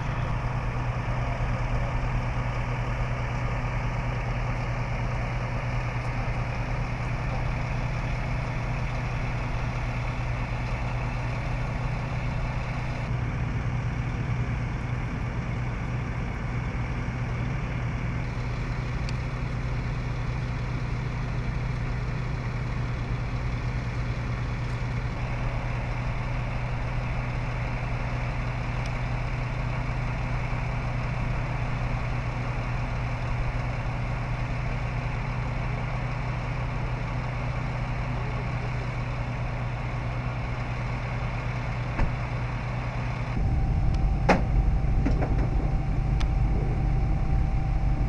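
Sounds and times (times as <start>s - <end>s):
loud rumble with whine: 0.0s - 48.0s
vehicle engines idling: 0.0s - 48.0s.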